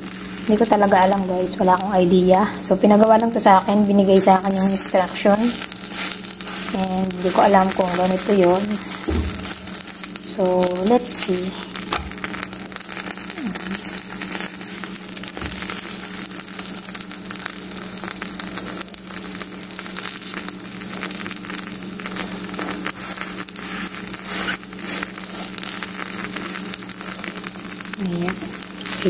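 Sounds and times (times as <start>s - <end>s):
batter sizzling in hot oil: 0.0s - 29.0s
steady low hum: 0.0s - 29.0s.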